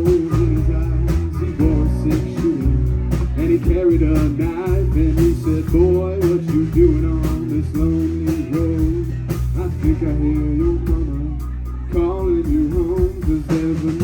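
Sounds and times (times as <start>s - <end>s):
bending lead guitar melody: 0.0s - 13.9s
live blues-rock band: 0.0s - 14.0s.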